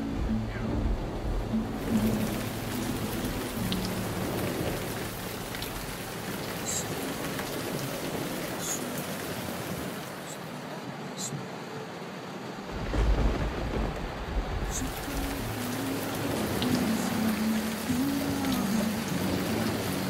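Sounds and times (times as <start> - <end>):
raindrop ticks: 0.0 - 10.4, 12.7 - 20.0
heavy rain on a car: 0.5 - 20.0.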